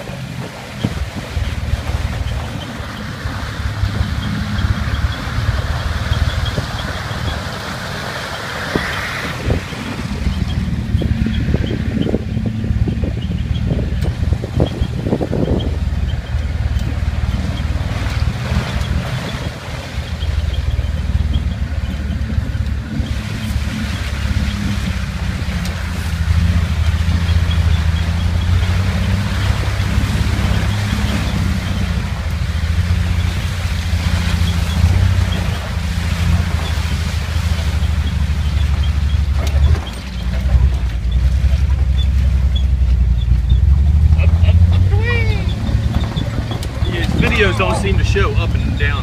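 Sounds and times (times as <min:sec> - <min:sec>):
road and wind noise: 0:00.0 - 0:49.0
vehicle engine running: 0:00.0 - 0:49.0.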